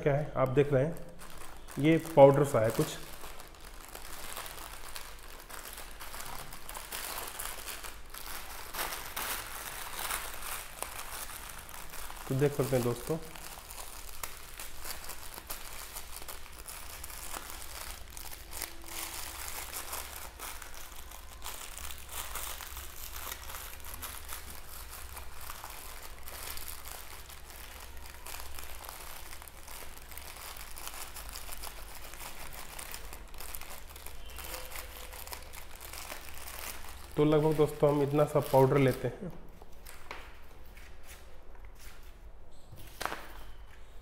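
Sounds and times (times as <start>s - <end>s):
foil sachet crinkling: 0.5s - 39.1s.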